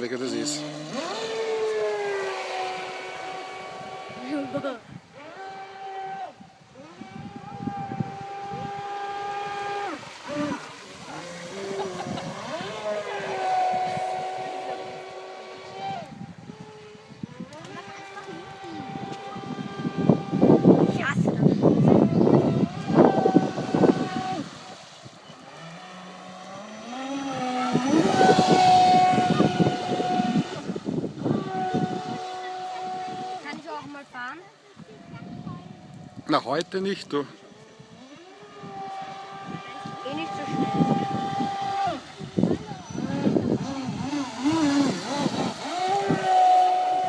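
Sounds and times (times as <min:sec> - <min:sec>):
model boat electric motor whine: 0:00.0 - 0:47.0
water rushing and splashing: 0:00.0 - 0:47.0.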